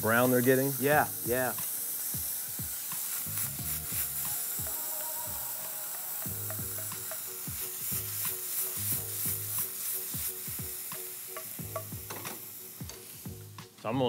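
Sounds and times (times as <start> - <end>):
background music with beat: 0.0 - 14.0
mushrooms sizzling in oil: 0.0 - 14.0.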